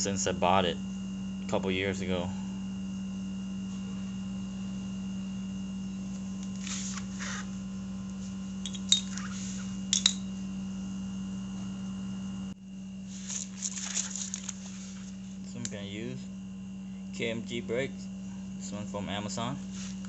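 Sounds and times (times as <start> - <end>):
faint high whine: 0.0 - 20.0
low electrical hum: 0.0 - 20.0.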